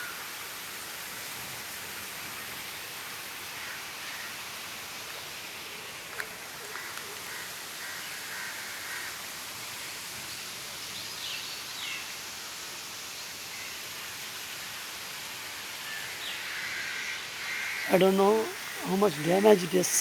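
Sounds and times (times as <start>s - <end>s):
outdoor hiss: 0.0s - 20.0s.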